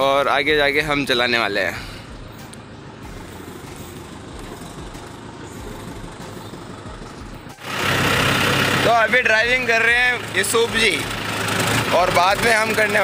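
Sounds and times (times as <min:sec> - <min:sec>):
tractor engine running: 0:01.8 - 0:13.0.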